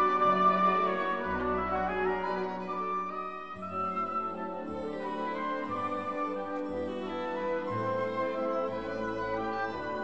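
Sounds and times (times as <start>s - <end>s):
slow orchestral music: 0.0s - 10.0s.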